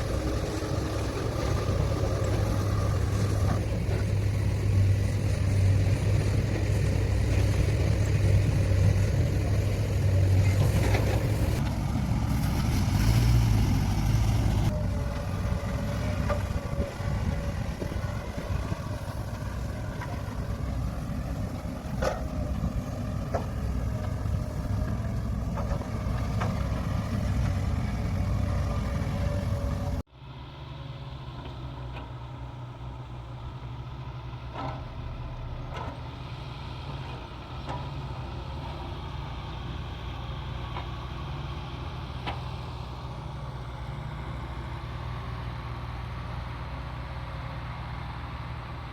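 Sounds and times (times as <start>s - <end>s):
heavy diesel machinery engine: 0.0s - 48.9s.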